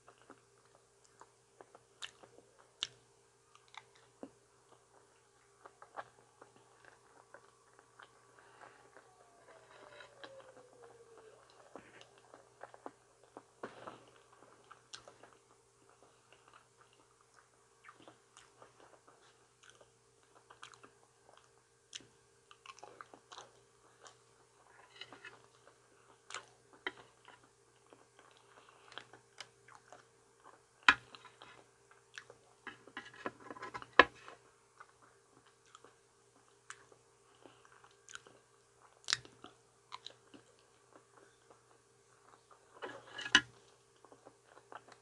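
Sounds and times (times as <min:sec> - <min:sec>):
chewing banana: 0:00.0 - 0:33.0, 0:34.2 - 0:45.0
faint steady hum: 0:00.0 - 0:45.0.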